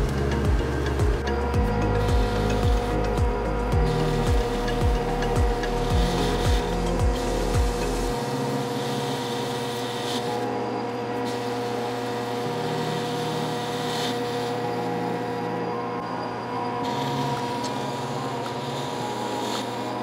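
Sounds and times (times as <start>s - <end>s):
lathe tool cutting steel: 0.0s - 20.0s
metal lathe gear whine: 0.0s - 20.0s.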